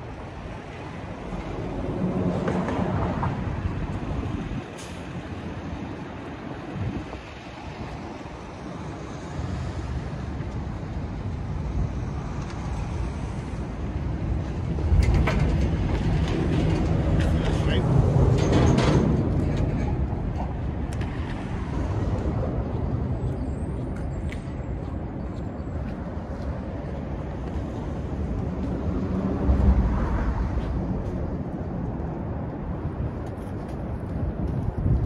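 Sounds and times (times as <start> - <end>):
vehicle rumble with rattling: 0.0 - 35.0.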